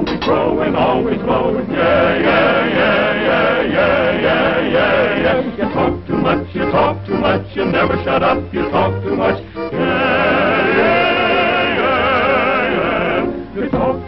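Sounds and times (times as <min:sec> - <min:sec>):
male choir singing: 0:00.0 - 0:14.0.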